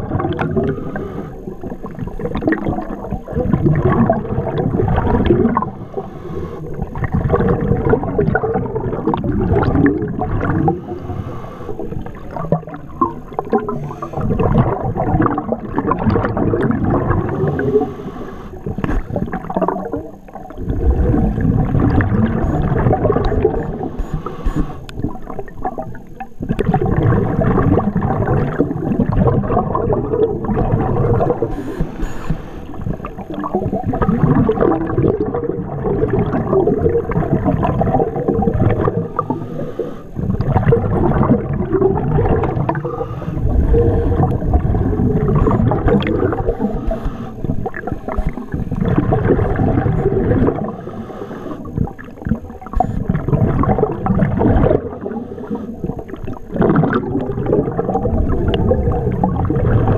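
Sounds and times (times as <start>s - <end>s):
underwater exhaled bubbles gurgling: 0.0s - 59.9s.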